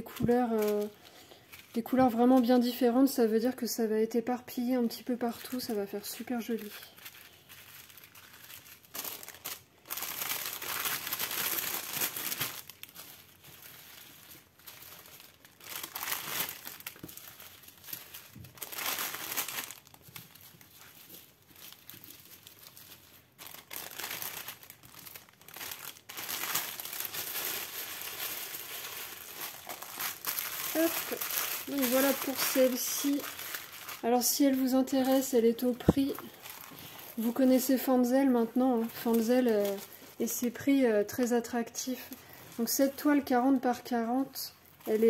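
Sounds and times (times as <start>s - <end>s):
plastic packaging crinkling: 0.0s - 45.0s.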